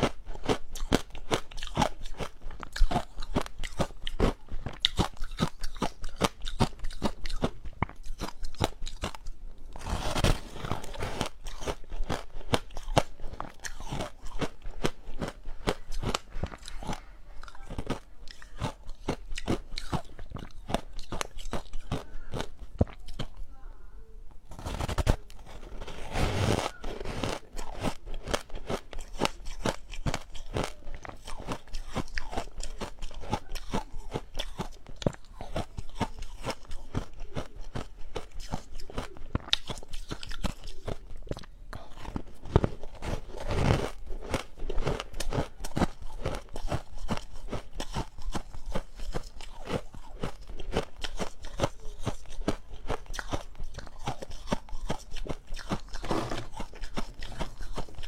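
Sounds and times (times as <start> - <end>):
ice being chewed: 0.0 - 23.4, 24.5 - 58.0.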